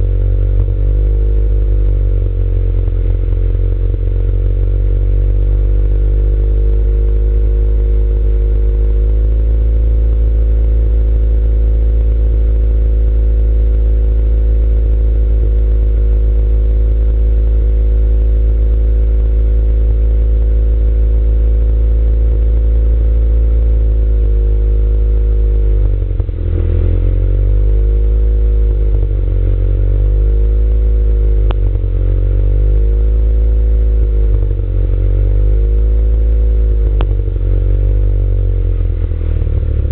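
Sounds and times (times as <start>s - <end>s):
misfiring engine idling and revving: 0.0s - 39.9s.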